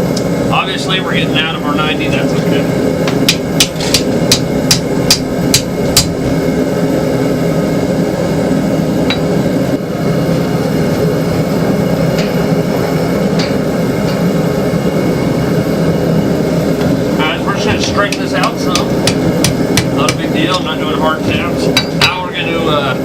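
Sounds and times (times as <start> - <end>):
forge roaring: 0.0 - 23.0.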